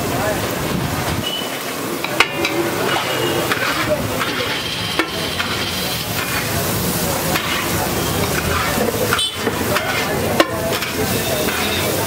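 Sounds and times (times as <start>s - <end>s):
frying sizzle: 0.0s - 12.0s
metal spatula scraping griddle: 1.2s - 12.0s.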